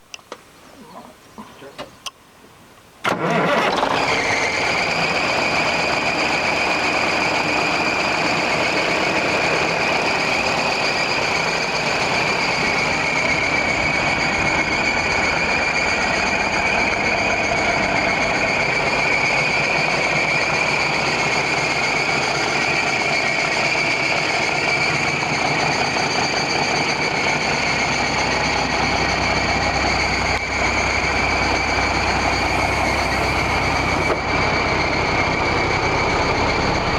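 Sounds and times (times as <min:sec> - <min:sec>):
truck engine idling: 0:03.1 - 0:36.9
high-pitched whine: 0:04.1 - 0:36.9.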